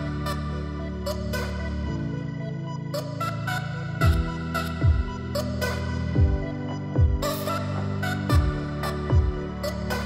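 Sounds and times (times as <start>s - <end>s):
background music with low chords: 0.0s - 10.0s.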